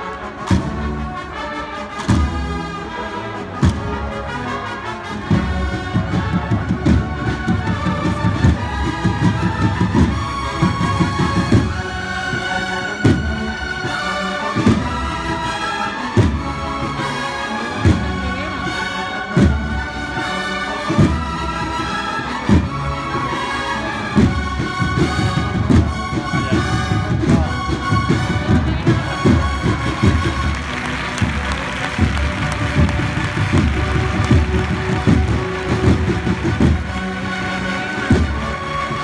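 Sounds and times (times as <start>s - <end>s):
cornets playing a processional march: 0.0s - 39.0s
rolling snare drums: 0.0s - 39.0s.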